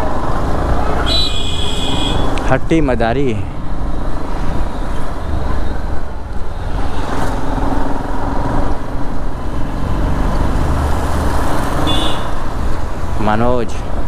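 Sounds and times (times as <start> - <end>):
traffic engines and road noise: 0.0 - 14.0.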